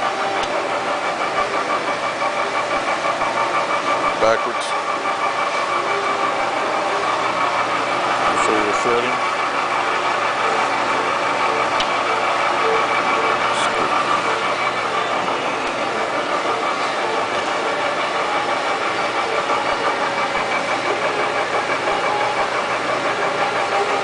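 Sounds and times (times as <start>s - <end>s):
lathe running with gear tones: 0.0s - 24.0s.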